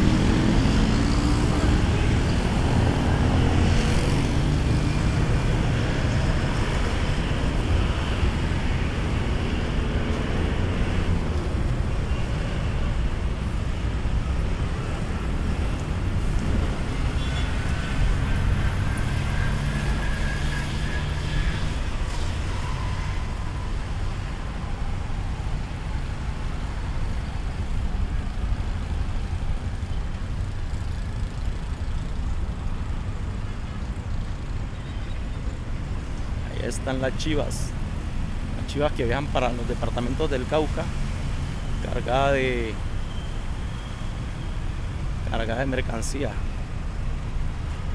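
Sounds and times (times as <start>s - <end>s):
city road traffic passing: 0.0s - 47.9s.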